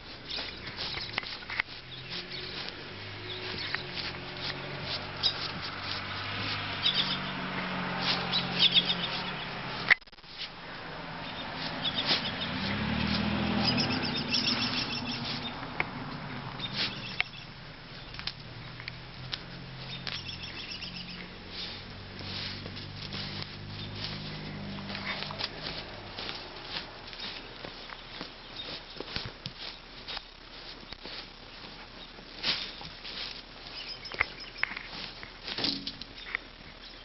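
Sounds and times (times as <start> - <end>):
birds chirping: 0.0 - 9.9, 10.7 - 37.0
puppy paws scratching while digging: 0.0 - 36.5
low steady hum: 0.0 - 37.0.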